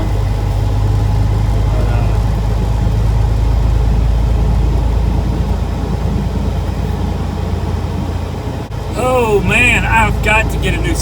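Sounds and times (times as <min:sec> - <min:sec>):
diesel truck engine running: 0:00.0 - 0:11.0
road rumble: 0:00.0 - 0:11.0.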